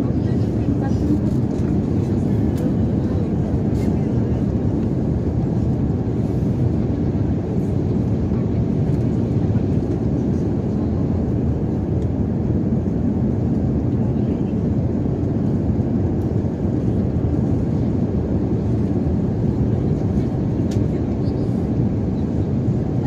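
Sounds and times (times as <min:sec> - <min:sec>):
airliner cabin engine rush: 0:00.0 - 0:23.0.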